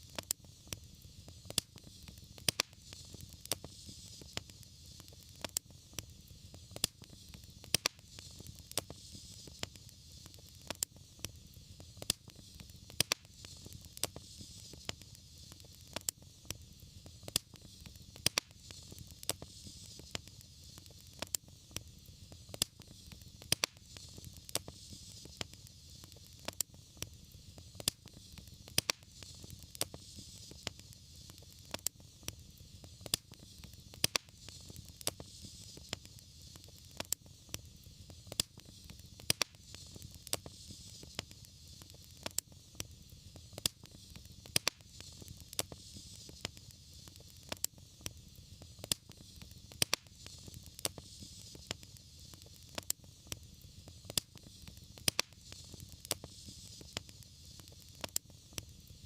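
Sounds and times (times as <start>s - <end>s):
low rumble of fire: 0.0s - 59.0s
soft hiss: 0.0s - 59.0s
wood fire crackling: 0.0s - 59.0s.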